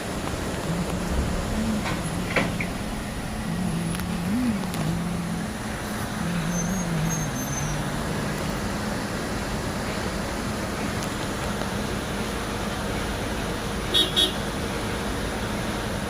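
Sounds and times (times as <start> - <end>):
steady rushing noise: 0.0 - 13.8
vehicle engine droning: 0.0 - 16.0.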